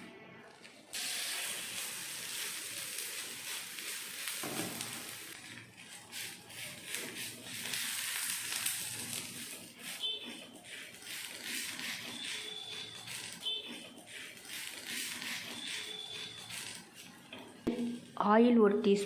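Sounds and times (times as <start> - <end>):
batter sizzling on griddle: 1.0 - 17.2.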